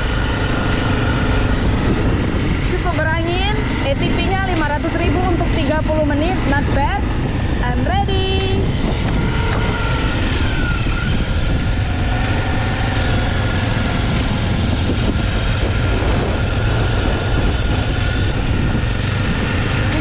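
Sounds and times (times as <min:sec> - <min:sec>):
quad bike engine running: 0:00.0 - 0:10.5, 0:11.1 - 0:20.0
wind rumble on microphone: 0:00.0 - 0:20.0.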